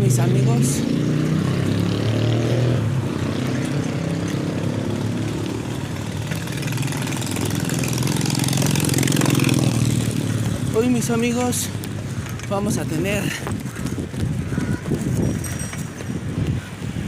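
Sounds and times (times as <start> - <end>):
vehicle engine humming: 0.0 - 15.3.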